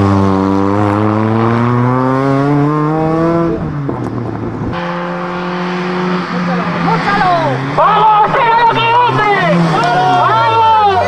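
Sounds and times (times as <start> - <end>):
rally car engine accelerating: 0.0 - 11.0
rally car engine steady note: 0.0 - 11.0.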